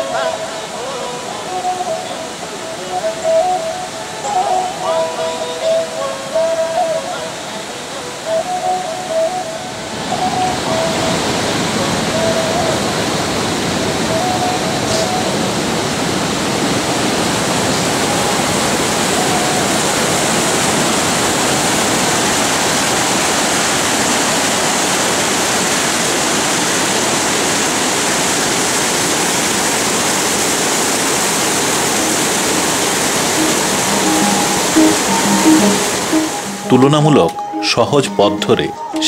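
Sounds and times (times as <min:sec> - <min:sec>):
fast-flowing river rushing: 0:00.0 - 0:39.0.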